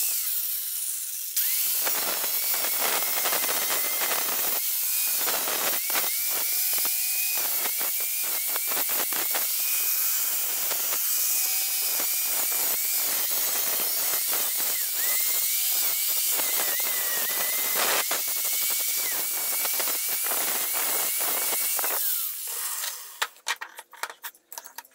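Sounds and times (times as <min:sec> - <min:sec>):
angle grinder grinding steel: 0:00.0 - 0:24.7.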